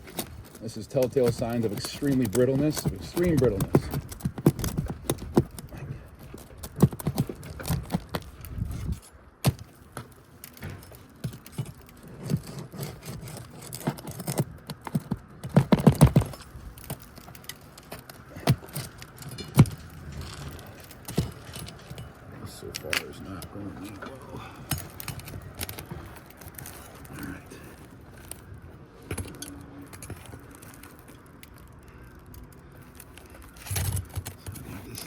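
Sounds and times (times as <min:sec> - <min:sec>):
pry tool clicking and scraping shingles: 0:00.0 - 0:35.0.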